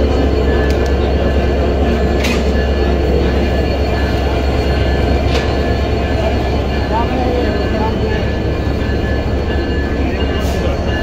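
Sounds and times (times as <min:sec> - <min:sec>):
diesel locomotive engine droning: 0:00.0 - 0:11.0.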